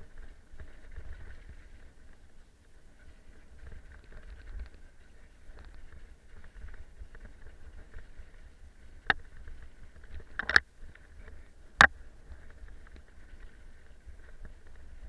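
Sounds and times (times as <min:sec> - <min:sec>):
mountain bike rattling on trail: 0:00.0 - 0:15.0.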